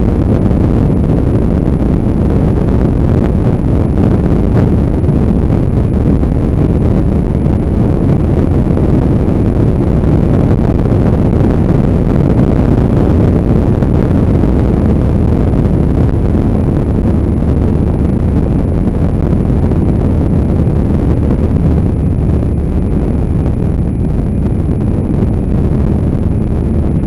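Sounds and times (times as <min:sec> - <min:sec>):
motorbike running: 0:00.0 - 0:27.0
road noise: 0:00.0 - 0:27.0
wind rumble on microphone: 0:00.0 - 0:27.0.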